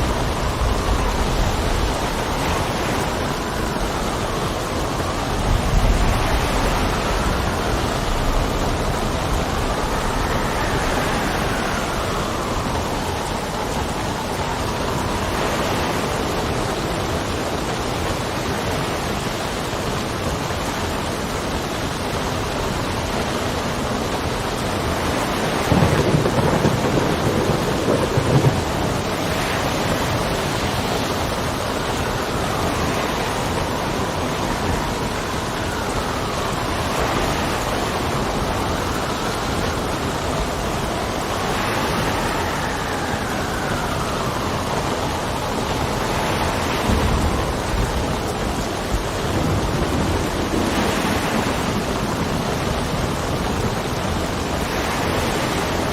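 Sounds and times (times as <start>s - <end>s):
thunder rumbling: 0.0s - 19.2s, 20.2s - 55.9s
steady rain: 0.0s - 55.9s
wind whistling: 0.0s - 55.9s.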